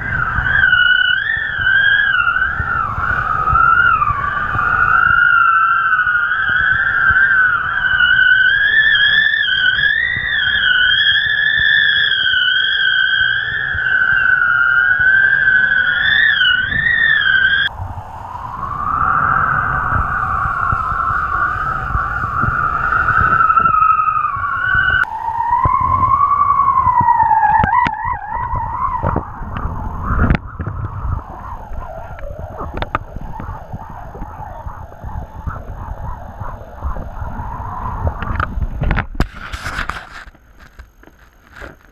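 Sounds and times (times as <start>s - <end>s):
wind rumble on microphone: 0.0s - 41.9s
wind whistling in kite lines: 0.0s - 41.9s.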